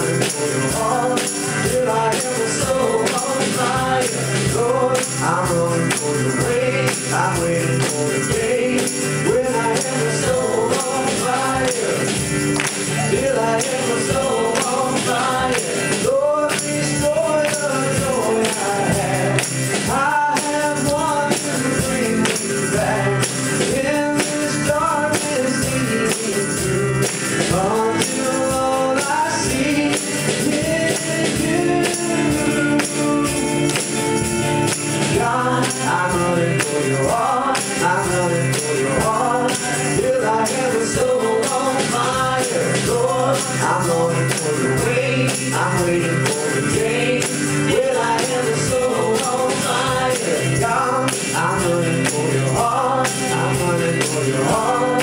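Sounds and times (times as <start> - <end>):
acoustic guitar: 0.0 - 55.0
drum kit beat: 0.0 - 55.0.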